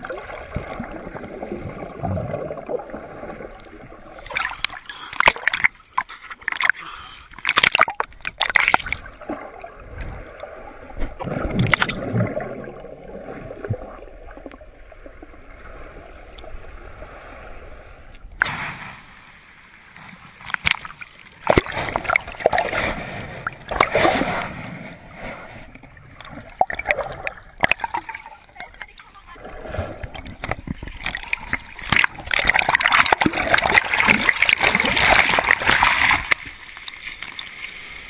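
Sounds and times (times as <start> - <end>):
muffled underwater sloshing: 0.0 - 38.0
water splashing and gurgling: 0.0 - 38.0.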